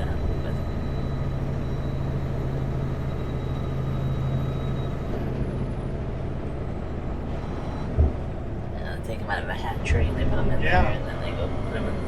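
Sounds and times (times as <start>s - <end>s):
road noise: 0.0s - 12.0s
truck diesel engine humming: 0.0s - 12.0s.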